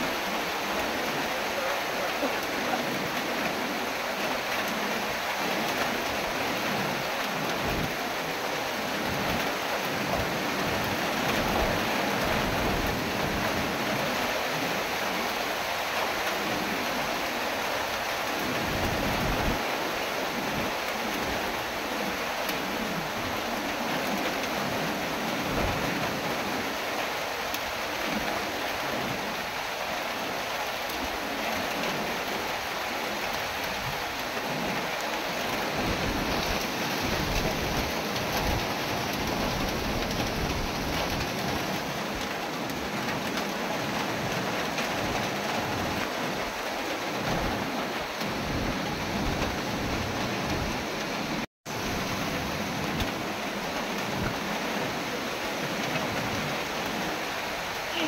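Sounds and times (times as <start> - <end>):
strong wind gusts rumbling: 0.0 - 15.4, 16.2 - 26.8, 30.9 - 57.9
heavy rain hissing: 0.0 - 58.0.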